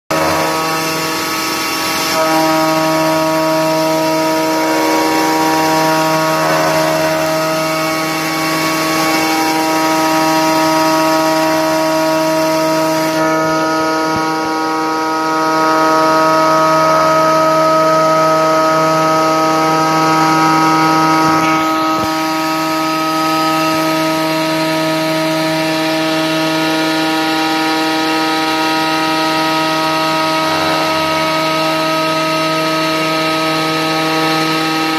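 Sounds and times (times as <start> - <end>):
router spindle milling metal: 0.1 - 34.9.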